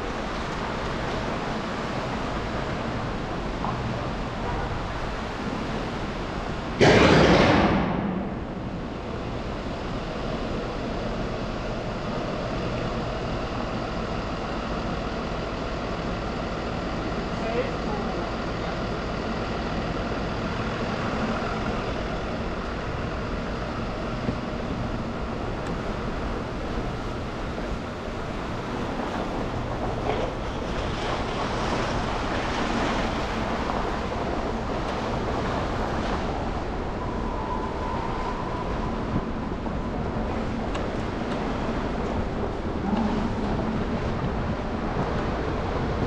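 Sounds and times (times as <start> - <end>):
engines and tyre noise: 0.0 - 46.0.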